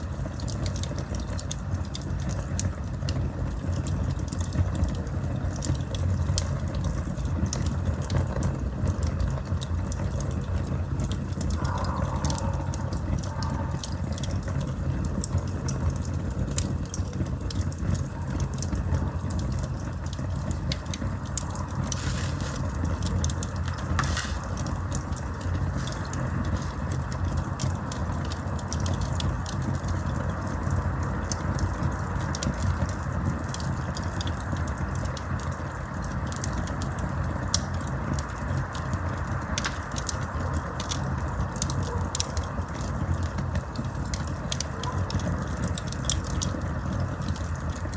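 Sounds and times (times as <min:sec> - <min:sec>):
burning wood crackling and popping: 0:00.0 - 0:47.9
campfire flame rumble: 0:00.0 - 0:47.9.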